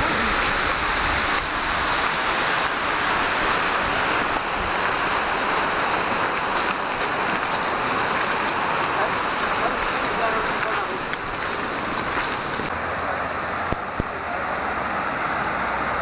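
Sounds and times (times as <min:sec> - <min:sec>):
lake water rushing: 0:00.0 - 0:16.0
wind: 0:00.0 - 0:16.0.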